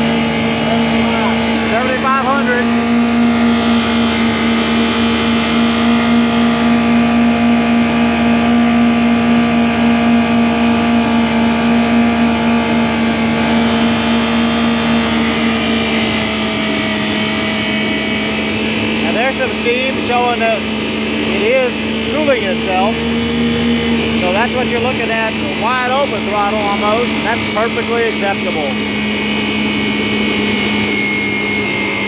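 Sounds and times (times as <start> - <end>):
jet ski engine high revs: 0.0 - 32.0.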